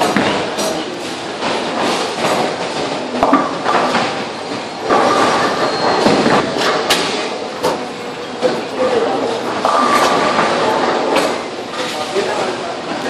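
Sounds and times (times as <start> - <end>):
bowling pins clattering: 0.0 - 11.4.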